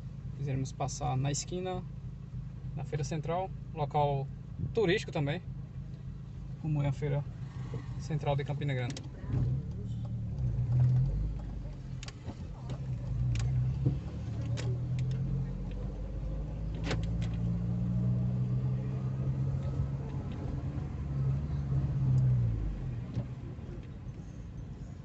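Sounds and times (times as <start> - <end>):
car engine hum: 0.0 - 25.0.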